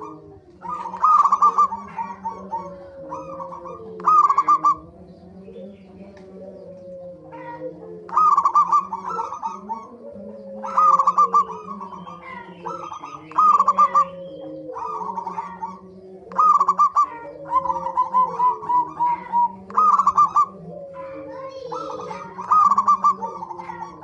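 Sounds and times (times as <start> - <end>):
doves soft drawn-out coos: 0.0 - 24.0
doves staccato notes: 0.0 - 24.0.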